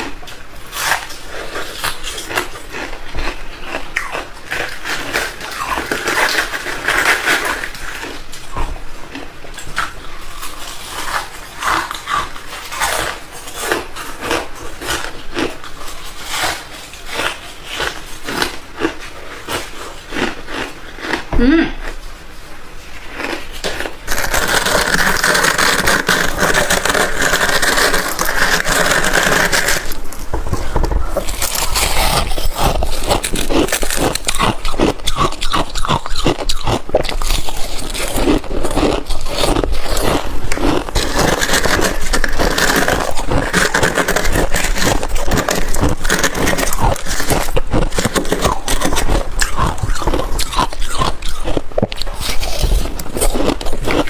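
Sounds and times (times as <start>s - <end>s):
ice crunching while chewed: 0.0s - 22.0s, 22.9s - 54.0s.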